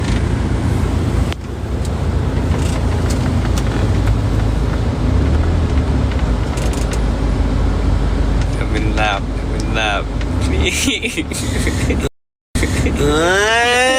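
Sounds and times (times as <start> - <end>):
vehicle rumbling in motion: 0.0 - 13.9.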